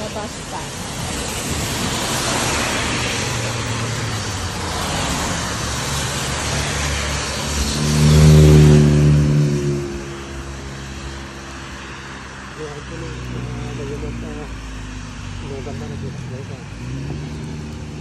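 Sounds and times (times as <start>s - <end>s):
tyres hissing on wet road: 0.0s - 18.0s
vehicle passing close: 0.0s - 18.0s.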